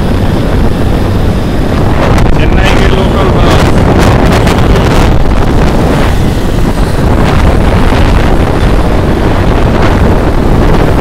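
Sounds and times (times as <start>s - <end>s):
motorcycle engine: 0.0s - 11.0s
road noise: 0.0s - 11.0s
wind buffeting microphone: 0.0s - 11.0s.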